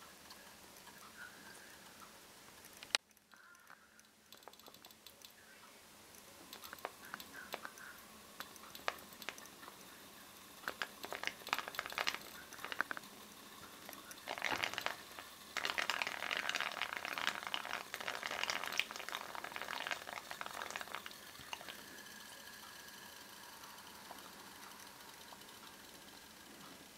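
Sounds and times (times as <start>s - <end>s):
wine boiling and crackling: 0.0s - 26.9s.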